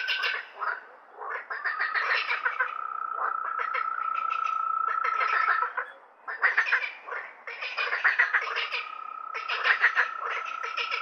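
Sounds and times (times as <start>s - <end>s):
frogs croaking in chorus: 0.0s - 11.0s.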